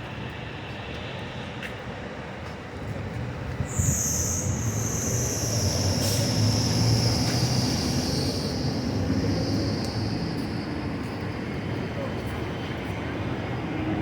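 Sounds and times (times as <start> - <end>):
passing vehicle with high whine: 0.0 - 14.0.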